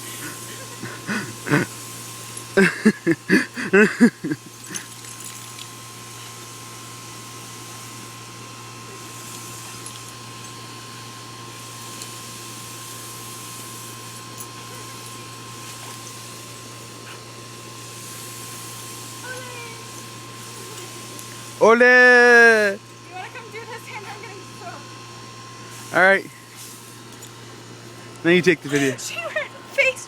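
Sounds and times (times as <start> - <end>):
steady hiss: 0.0 - 24.8, 25.6 - 30.0.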